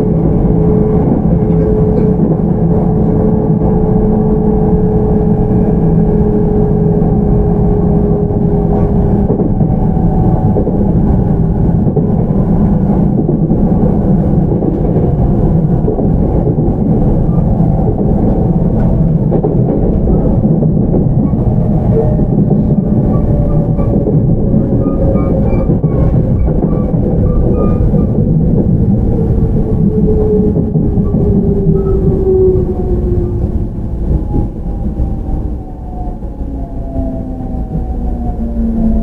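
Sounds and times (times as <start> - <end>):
rumble of wheels on rail: 0.0 - 39.0.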